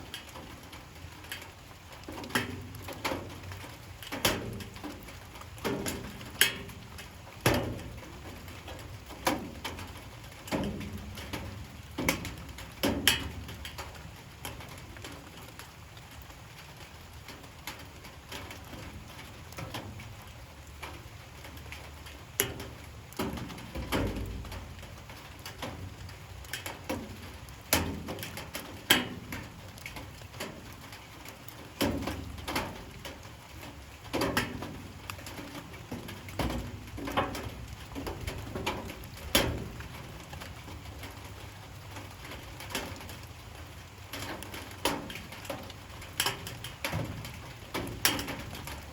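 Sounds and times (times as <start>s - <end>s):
drips on a hard surface: 0.0s - 48.9s
light rain hiss: 0.0s - 48.9s.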